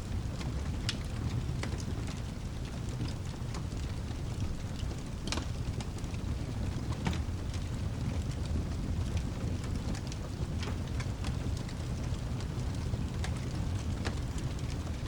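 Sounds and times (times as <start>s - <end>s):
fireplace crackling and popping: 0.0s - 15.0s.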